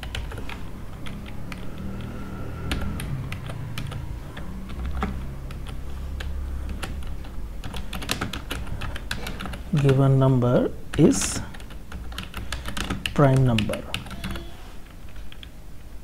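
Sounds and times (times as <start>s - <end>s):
keyboard typing: 0.0s - 15.6s
low steady hum: 0.0s - 16.0s.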